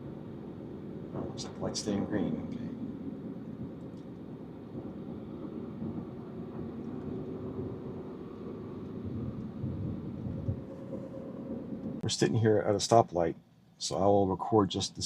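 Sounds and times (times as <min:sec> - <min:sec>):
road and wind noise in car cabin: 0:00.0 - 0:15.0.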